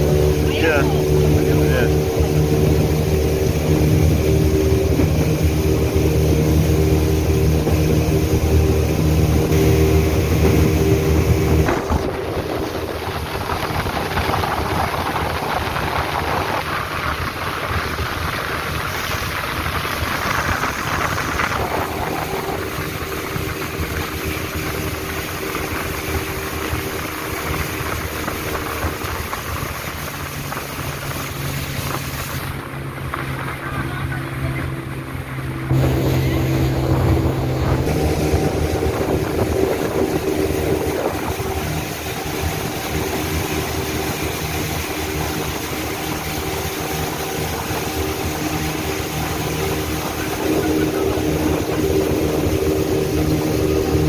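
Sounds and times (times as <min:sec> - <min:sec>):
motorboat engine running: 0:00.0 - 0:54.0
rushing water and wind: 0:00.0 - 0:54.0.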